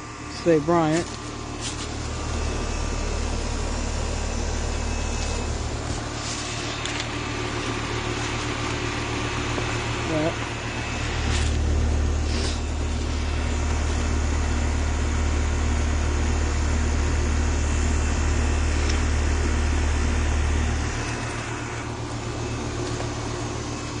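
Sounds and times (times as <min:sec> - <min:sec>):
heat pump air rushing: 0:00.0 - 0:23.8
heat pump humming: 0:00.0 - 0:24.0.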